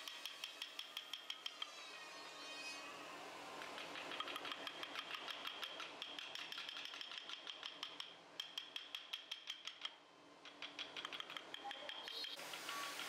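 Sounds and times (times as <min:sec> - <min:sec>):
mallet tapping carving gouge: 0:00.0 - 0:01.7, 0:03.6 - 0:13.0.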